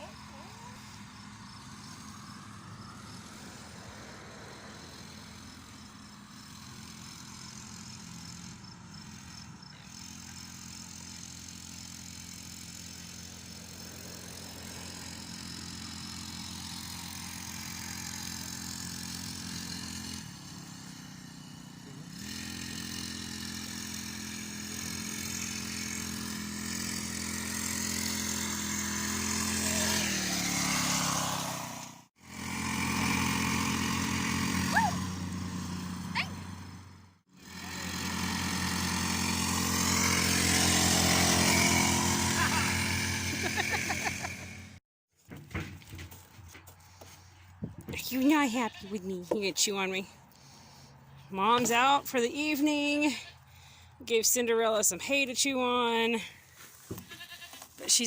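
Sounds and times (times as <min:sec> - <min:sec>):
small bike engine running: 0:00.0 - 0:58.0.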